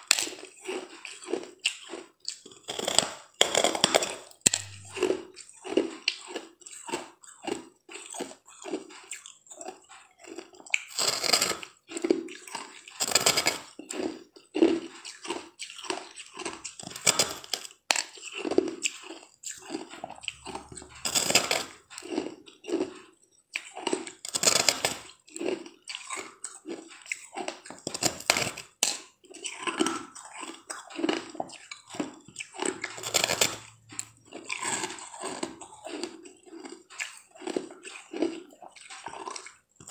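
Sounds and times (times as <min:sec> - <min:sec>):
crunching bites of ice: 0:00.0 - 0:08.8, 0:10.2 - 0:15.2, 0:15.8 - 0:23.0, 0:23.8 - 0:30.0, 0:31.9 - 0:38.4
chewing and crackling ice: 0:00.0 - 0:39.9.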